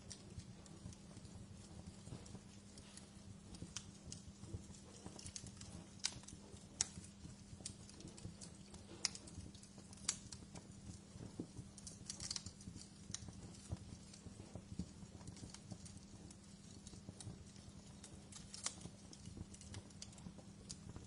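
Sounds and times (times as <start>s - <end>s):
low steady hum: 0.0s - 21.0s
wood fire crackling and popping: 0.0s - 21.0s.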